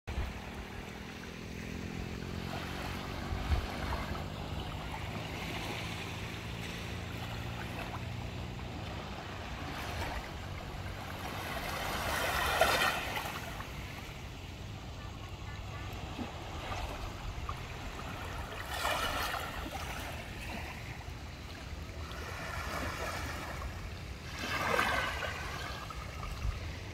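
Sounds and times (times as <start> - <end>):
low engine hum: 0.1 - 26.9
sea washing against shore: 0.1 - 26.9.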